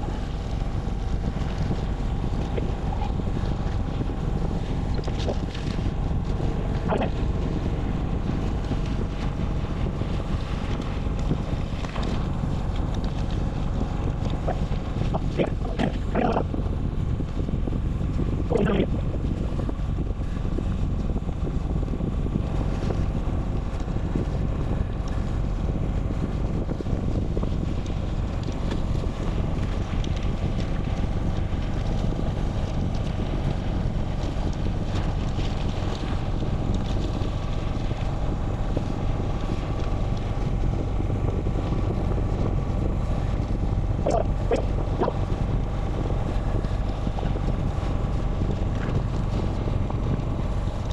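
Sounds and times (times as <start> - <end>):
wind rumbling on microphone: 0.0 - 50.9.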